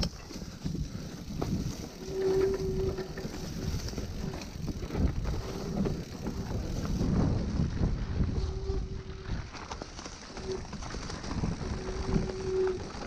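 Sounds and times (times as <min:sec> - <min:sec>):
bike rattling over bumps: 0:00.0 - 0:13.0
bike tyres crunching leaves: 0:00.0 - 0:13.0
wind on microphone: 0:00.0 - 0:13.0.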